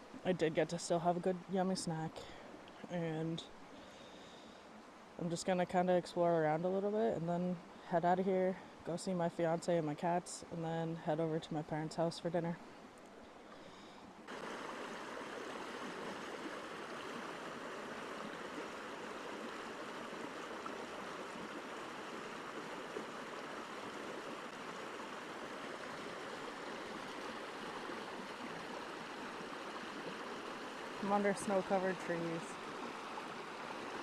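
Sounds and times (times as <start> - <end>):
stream flowing: 0.0 - 34.0.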